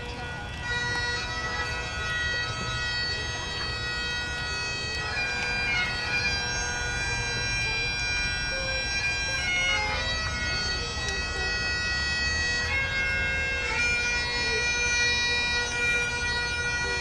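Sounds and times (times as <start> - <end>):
bagpipes playing: 0.0 - 17.0.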